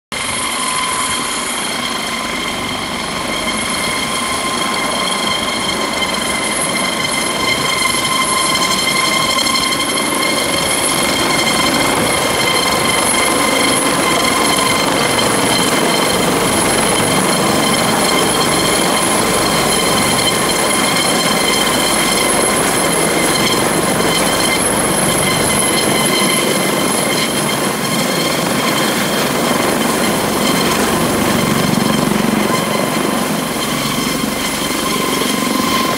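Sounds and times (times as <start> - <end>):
helicopter turbine whine: 0.1 - 35.9
helicopter rotor chop: 0.2 - 35.9.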